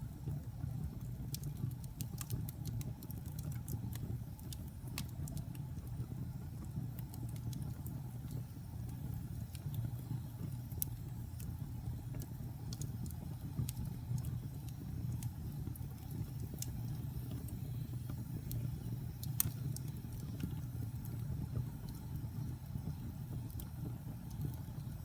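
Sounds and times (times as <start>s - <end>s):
wood fire burning: 0.0s - 25.0s
logs crackling and popping: 0.2s - 25.0s.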